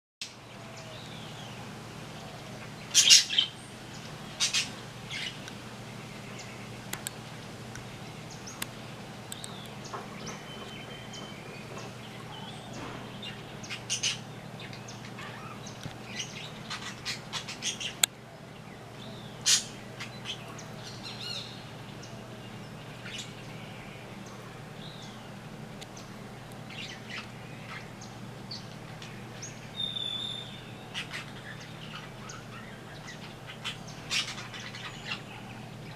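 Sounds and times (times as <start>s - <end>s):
birds calling: 0.2s - 35.9s
steady low hum: 0.3s - 35.9s.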